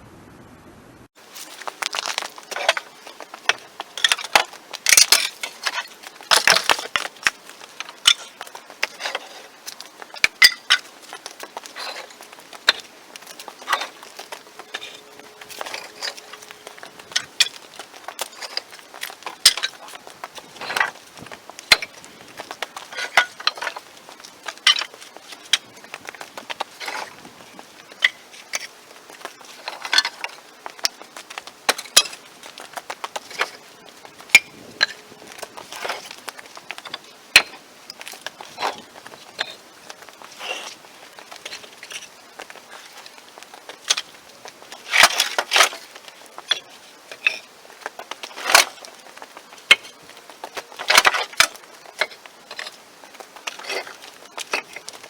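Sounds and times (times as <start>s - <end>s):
firewood knocking and clattering: 1.2s - 55.0s.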